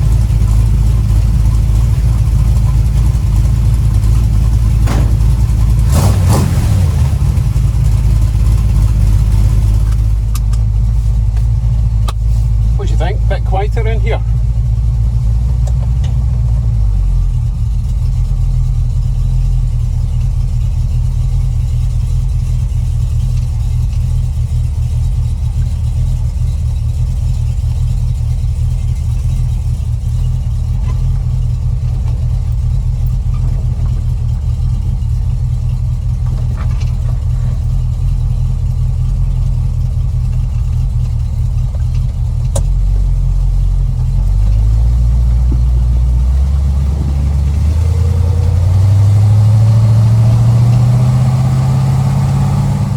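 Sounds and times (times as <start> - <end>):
low engine exhaust note: 0.0 - 52.9.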